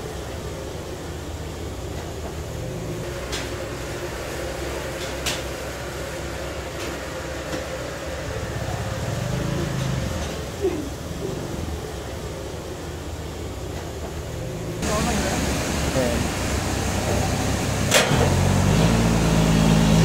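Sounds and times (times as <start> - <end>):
machine engine rumbling: 0.0 - 20.0.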